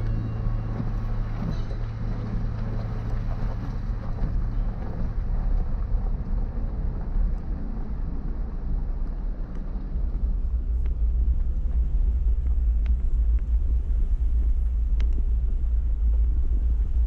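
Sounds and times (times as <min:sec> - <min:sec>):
low hum: 0:00.0 - 0:17.0
vehicle engine and tyre rumble: 0:00.0 - 0:17.0.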